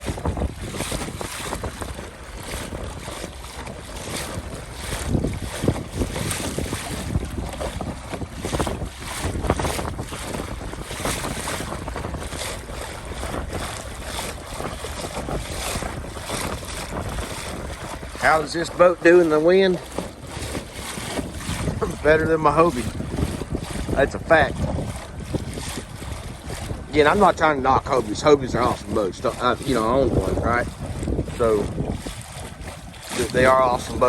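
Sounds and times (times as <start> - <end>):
waves slapping kayak hull: 0.0 - 34.0
wind buffeting microphone: 0.0 - 34.0.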